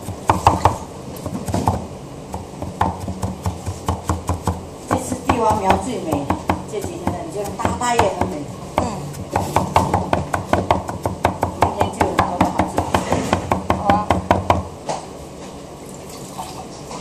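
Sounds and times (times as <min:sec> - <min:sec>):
cleaver chopping on cutting board: 0:00.0 - 0:14.7.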